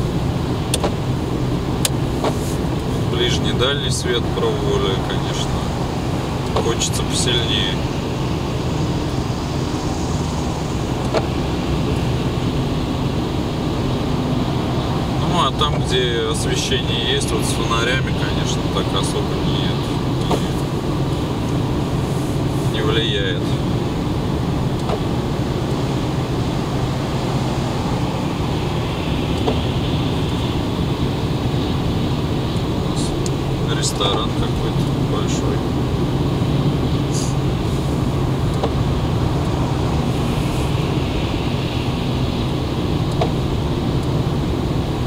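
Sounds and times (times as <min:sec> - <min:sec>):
car engine and tyre noise: 0:00.0 - 0:45.0.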